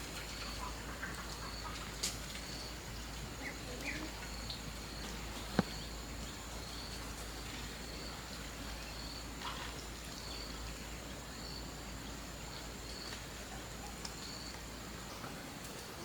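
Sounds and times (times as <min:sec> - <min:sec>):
insects chirping: 0:00.1 - 0:16.0.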